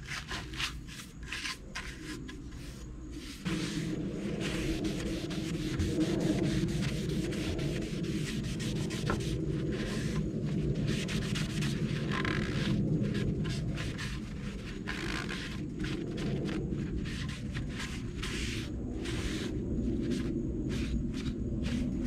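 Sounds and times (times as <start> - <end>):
rag rubbing wooden surface: 0.0 - 22.0.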